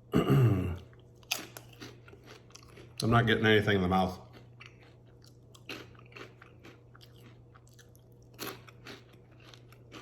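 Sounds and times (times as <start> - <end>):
person chewing crunchy snack: 0.7 - 3.4, 4.0 - 10.0.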